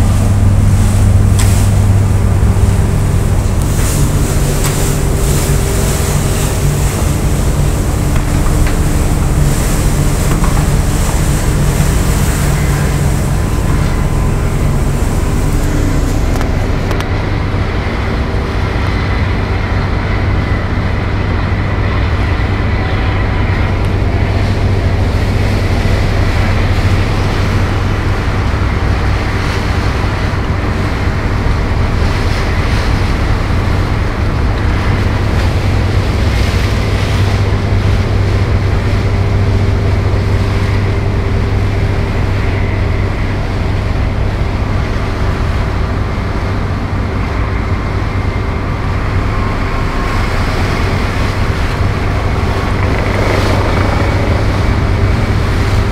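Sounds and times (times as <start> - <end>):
boat engine droning: 0.0 - 55.9
water rushing along hull: 0.0 - 55.9.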